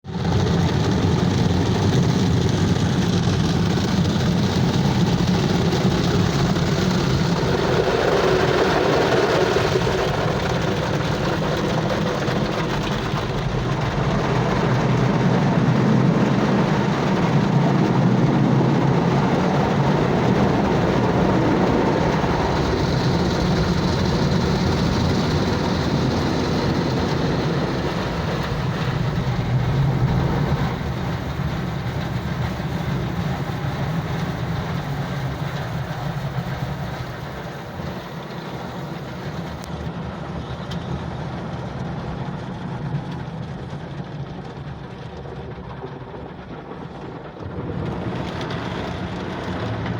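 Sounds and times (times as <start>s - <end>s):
car wash machine rumbling: 0.0s - 49.9s.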